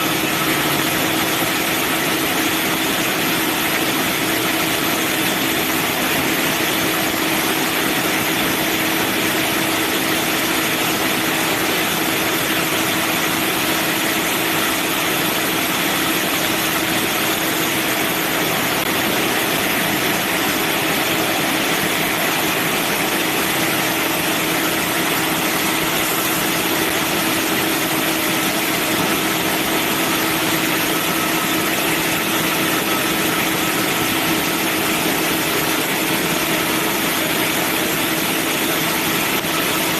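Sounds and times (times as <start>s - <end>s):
band sawmill drone: 0.0s - 39.9s.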